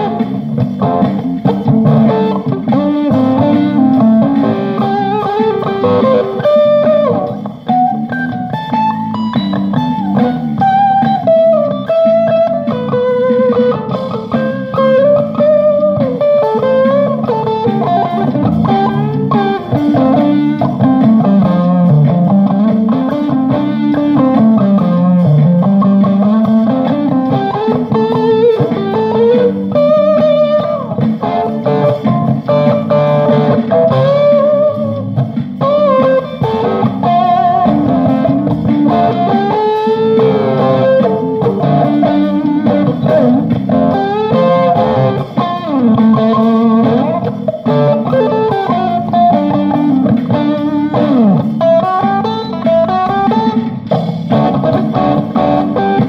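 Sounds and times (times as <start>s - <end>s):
electric guitar playing: 0.0s - 56.0s.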